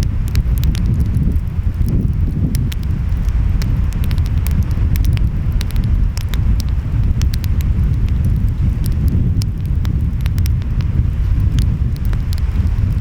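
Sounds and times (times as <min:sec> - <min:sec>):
wind: 0:00.0 - 0:13.0
wood fire crackling and popping: 0:00.0 - 0:13.0.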